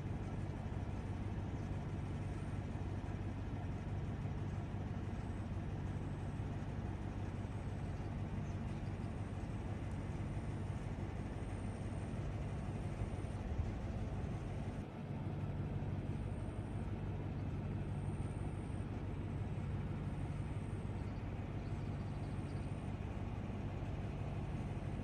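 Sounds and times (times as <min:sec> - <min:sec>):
vehicle engine hum: 0:00.0 - 0:25.0.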